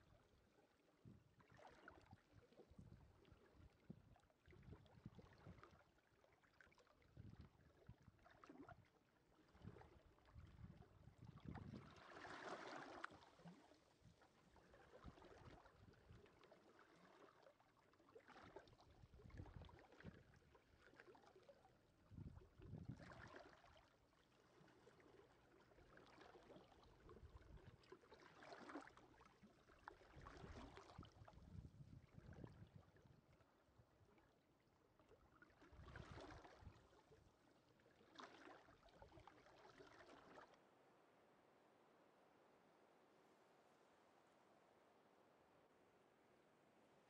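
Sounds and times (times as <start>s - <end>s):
small waves lapping on beach: 0.0s - 32.8s, 35.0s - 40.6s.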